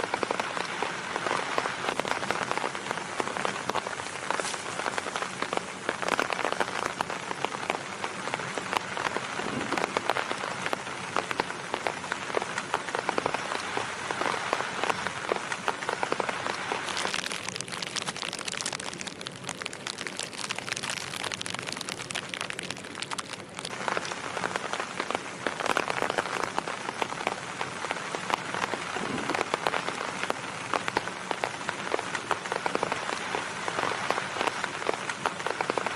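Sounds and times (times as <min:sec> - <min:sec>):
rain pattering on a tarp: 0:00.0 - 0:35.9.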